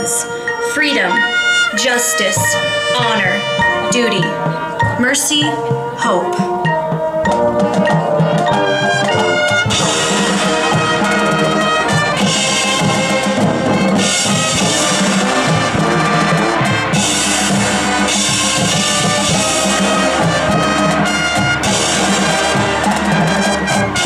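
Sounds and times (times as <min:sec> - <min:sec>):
marching band playing: 0:00.0 - 0:24.0
ringing percussion notes: 0:00.0 - 0:24.0.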